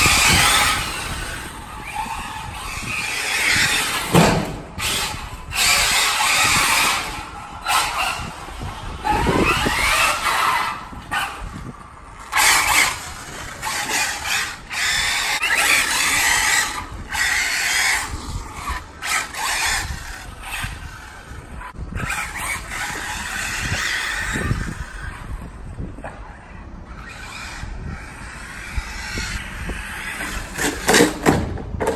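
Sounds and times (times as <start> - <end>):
electric motor whining: 0.0 - 25.8
tyres on pavement: 0.0 - 31.9.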